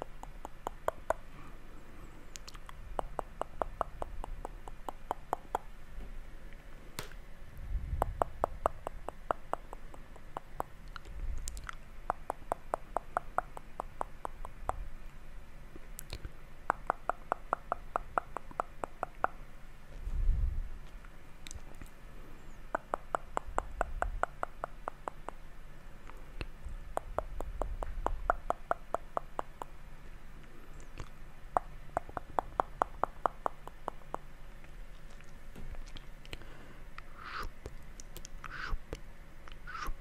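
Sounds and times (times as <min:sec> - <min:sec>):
tongue and lip clicks: 0:00.0 - 0:01.4, 0:02.3 - 0:05.8, 0:07.8 - 0:14.9, 0:15.8 - 0:19.4, 0:20.8 - 0:22.0, 0:22.6 - 0:29.8, 0:30.4 - 0:40.0.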